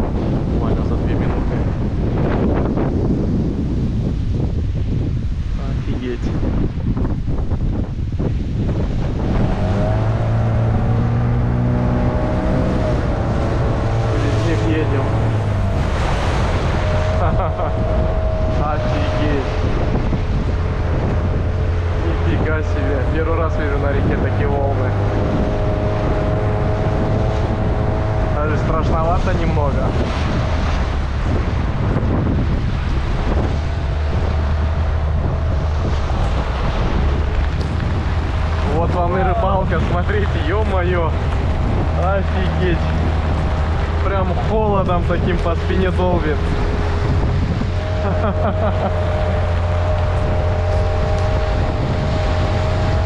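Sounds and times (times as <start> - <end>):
gusty wind on microphone: 0.0 - 53.0
engine running: 7.2 - 53.0.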